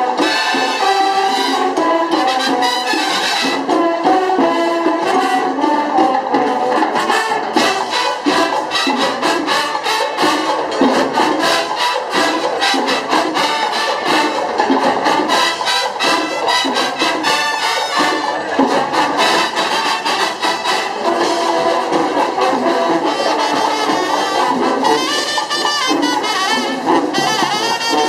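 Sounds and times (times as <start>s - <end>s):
brass melody of trumpets and trombones: 0.0s - 28.0s
steady drum beat: 0.0s - 28.0s.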